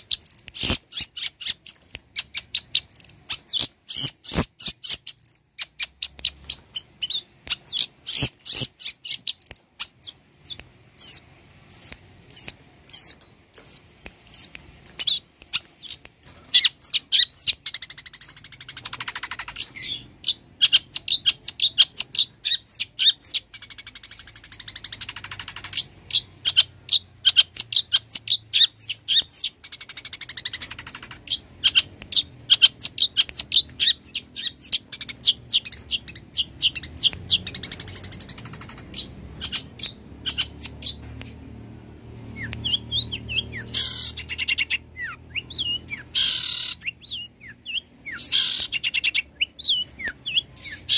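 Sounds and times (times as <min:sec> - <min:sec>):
bird chirping: 0:00.0 - 0:50.9.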